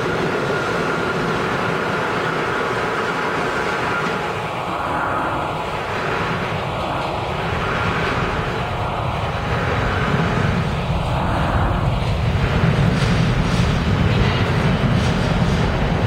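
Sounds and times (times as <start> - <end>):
subway train rumbling in tunnel: 0.0 - 16.0.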